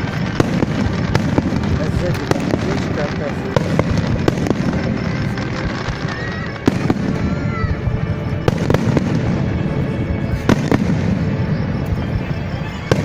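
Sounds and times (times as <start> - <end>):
firework bangs: 0.0 - 13.0
rumble of firework bursts: 0.0 - 13.0.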